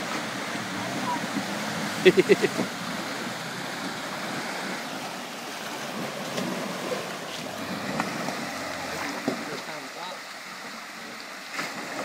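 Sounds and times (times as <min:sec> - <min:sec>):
creek water rushing around vehicle: 0:00.0 - 0:12.0.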